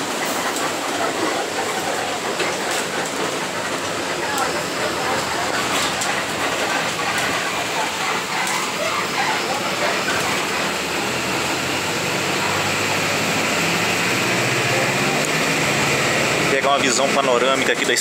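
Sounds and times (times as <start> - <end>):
road and tyre noise: 0.0 - 18.0.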